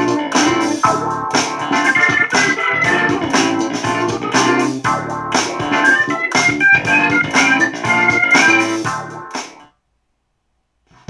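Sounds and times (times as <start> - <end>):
music through a speaker: 0.0 - 9.7.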